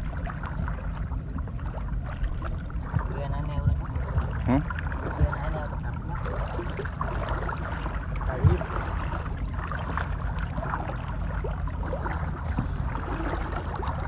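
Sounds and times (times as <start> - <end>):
boat engine running: 0.0 - 14.0
water washing along hull: 0.0 - 14.0.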